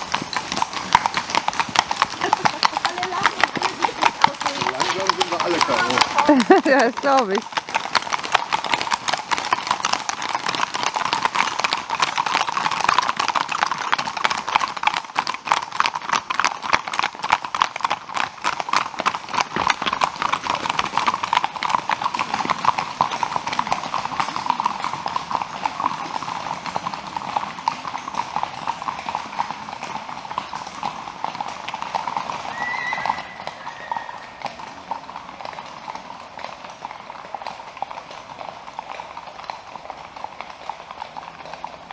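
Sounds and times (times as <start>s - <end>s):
horse hooves on wet pavement: 0.0s - 41.9s.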